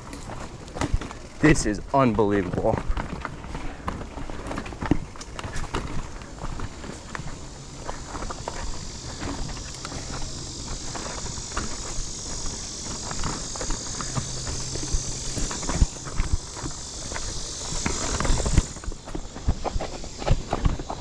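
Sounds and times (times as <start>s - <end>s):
bike knocking and clattering: 0.0s - 21.0s
footsteps on rocky trail: 0.0s - 21.0s
steady high hiss: 3.8s - 21.0s.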